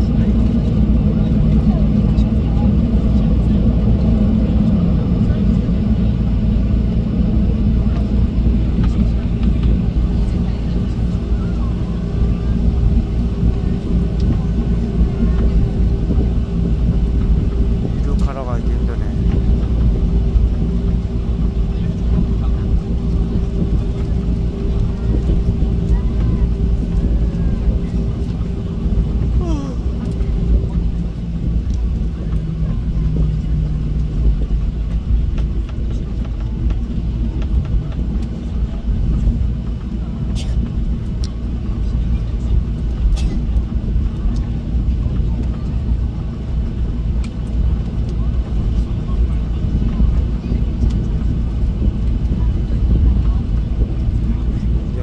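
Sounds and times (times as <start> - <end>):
constant cabin hum: 0.0 - 55.0
jet engines and wheels rumbling: 0.0 - 55.0.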